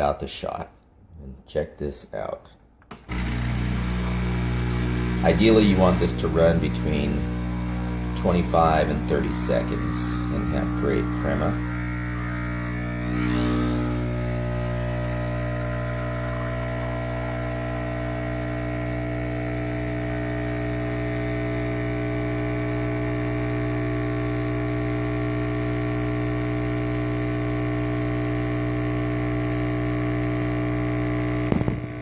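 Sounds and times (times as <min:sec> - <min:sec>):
espresso machine pump humming: 0:03.0 - 0:32.0.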